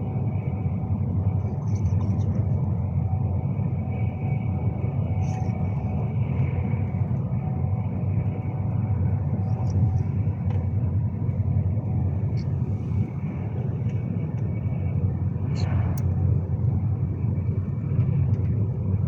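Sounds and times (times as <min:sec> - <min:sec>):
faint whine: 0:00.0 - 0:19.0
train rumble from inside carriage: 0:00.0 - 0:19.0.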